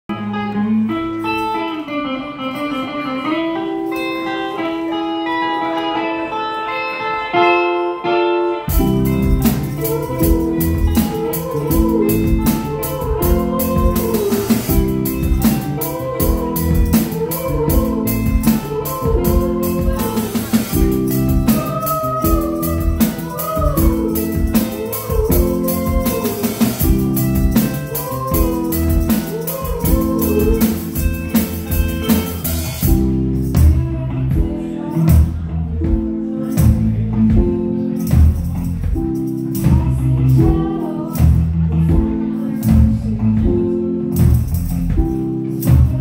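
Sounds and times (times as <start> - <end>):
bending lead guitar line: 0.1 - 46.0
clean electric guitar picking: 0.1 - 46.0
rock band playing: 0.1 - 46.0.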